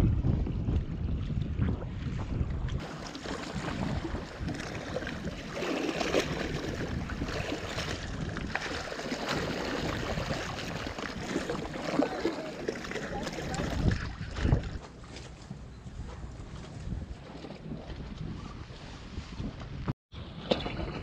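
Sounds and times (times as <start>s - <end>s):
seawater splashing and lapping: 0.5s - 21.0s.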